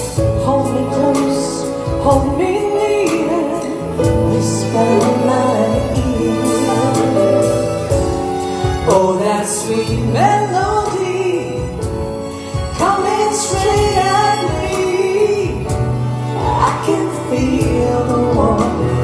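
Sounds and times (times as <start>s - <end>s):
band accompaniment with bass line: 0.0s - 19.0s
woman singing into a microphone: 0.2s - 7.6s, 8.9s - 11.8s, 12.7s - 19.0s.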